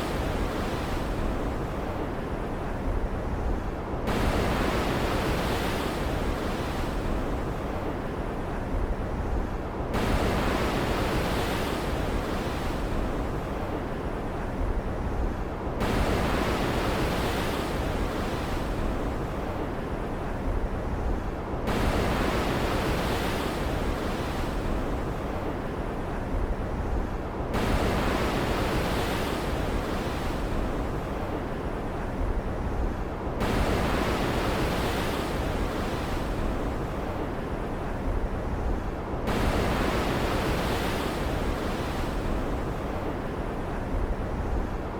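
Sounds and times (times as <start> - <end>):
stormy ocean waves: 0.0 - 44.9.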